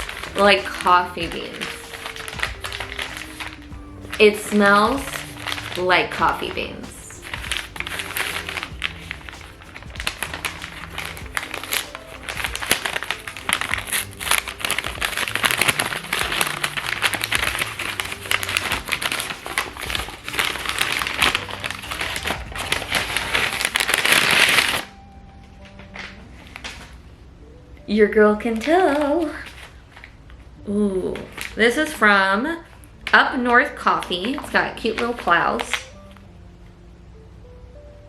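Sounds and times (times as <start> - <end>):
quiet background music: 0.0 - 38.0.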